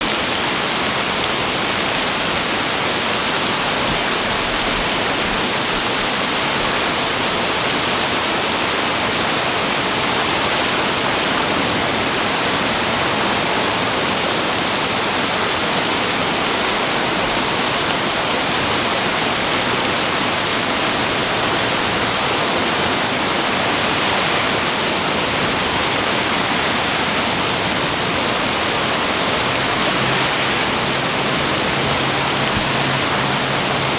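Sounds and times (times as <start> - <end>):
water rushing roar: 0.0 - 33.9.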